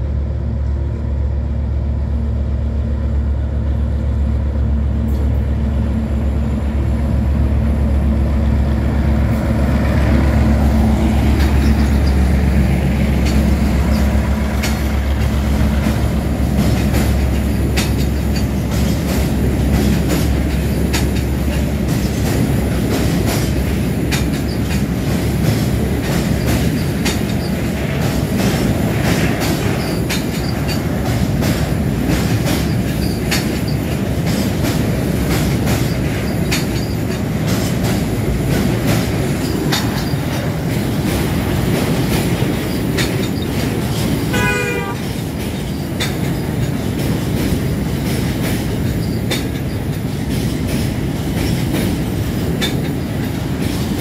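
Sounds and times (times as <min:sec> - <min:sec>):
freight train rumbling past: 0:00.0 - 0:54.0
wheels clicking over rail joints: 0:09.3 - 0:54.0.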